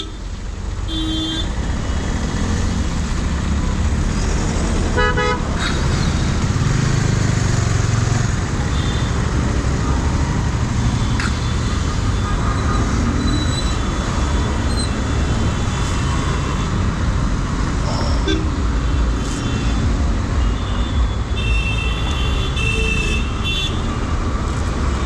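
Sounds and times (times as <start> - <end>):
road and wind noise: 0.0 - 25.0.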